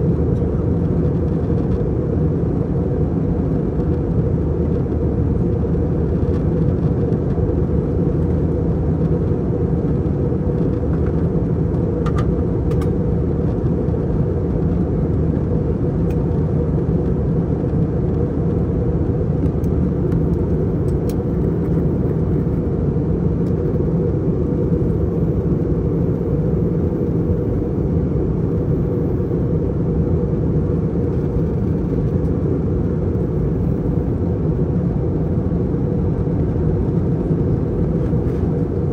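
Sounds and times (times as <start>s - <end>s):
airplane cabin drone: 0.0s - 38.9s.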